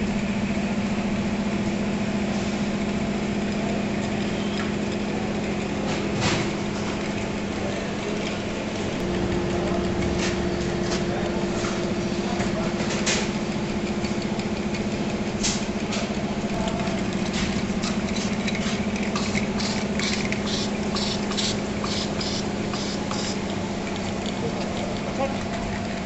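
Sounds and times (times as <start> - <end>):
labeling machine motor hum: 0.0 - 26.0.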